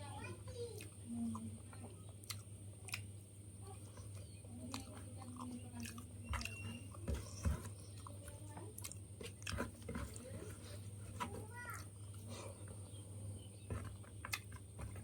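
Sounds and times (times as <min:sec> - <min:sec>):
steady low hum: 0:00.0 - 0:15.0
person chewing and smacking: 0:00.6 - 0:10.6, 0:11.8 - 0:15.0.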